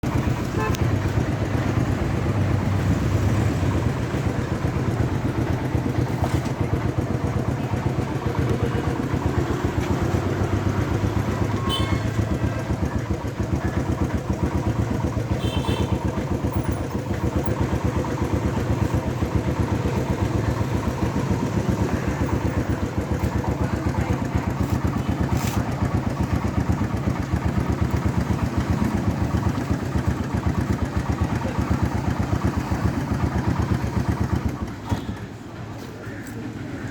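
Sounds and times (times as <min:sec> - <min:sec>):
small engine idling: 0:00.0 - 0:36.9.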